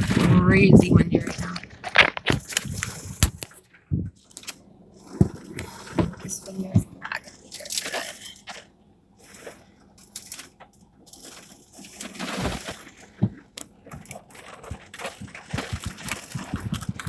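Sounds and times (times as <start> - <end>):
rain and hail on car roof: 0.0 - 3.6, 5.0 - 17.0.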